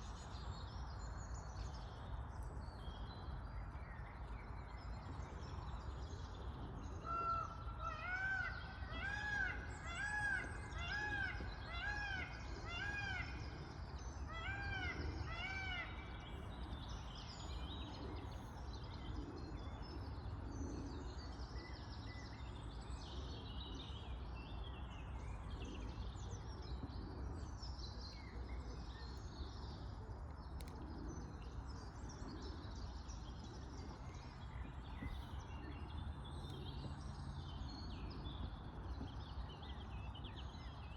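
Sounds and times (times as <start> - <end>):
low outdoor background noise: 0.0 - 40.9.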